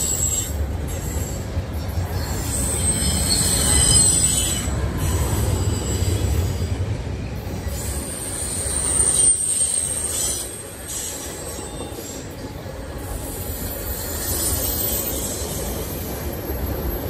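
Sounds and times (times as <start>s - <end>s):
high wheel squeal: 0.0s - 6.8s, 7.6s - 17.0s
train wheels rumbling on rail: 0.0s - 17.0s.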